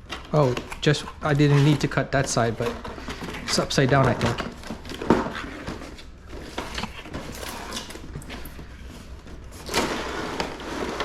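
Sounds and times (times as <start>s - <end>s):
cardboard scraping and rustling: 0.0s - 11.0s.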